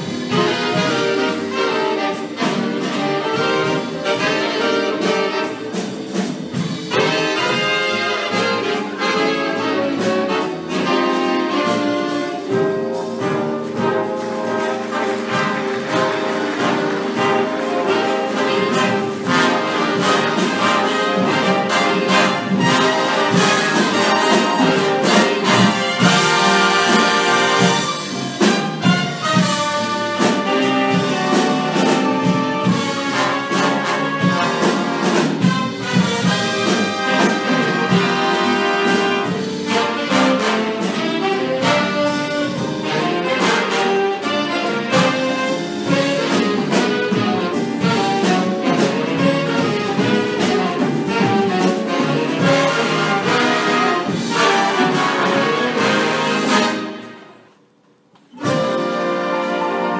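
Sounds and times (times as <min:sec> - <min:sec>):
jazz big band playing: 0:00.0 - 0:59.9.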